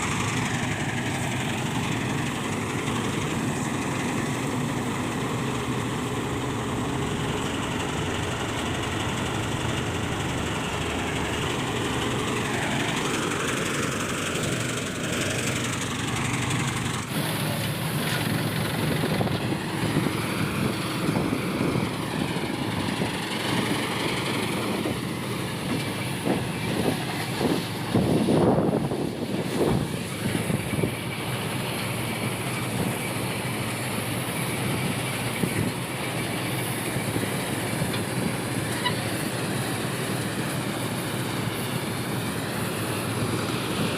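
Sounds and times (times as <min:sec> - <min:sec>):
diesel farm machinery running: 0:00.0 - 0:43.9.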